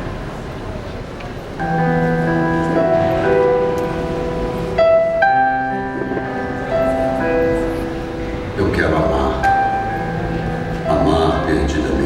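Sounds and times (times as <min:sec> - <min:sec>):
slow piano music: 0:01.0 - 0:12.0.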